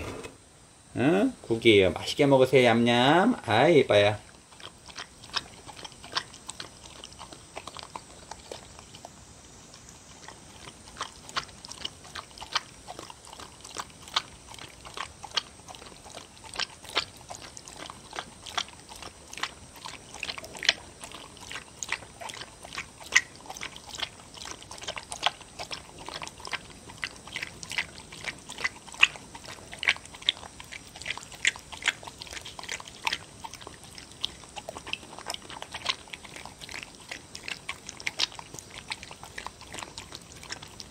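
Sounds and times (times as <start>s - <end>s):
dog chewing wet food: 2.0s - 40.9s.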